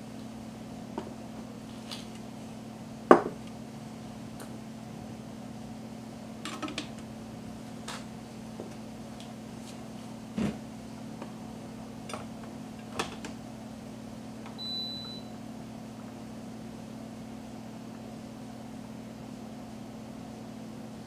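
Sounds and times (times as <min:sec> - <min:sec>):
appliance electrical hum: 0:00.0 - 0:21.0.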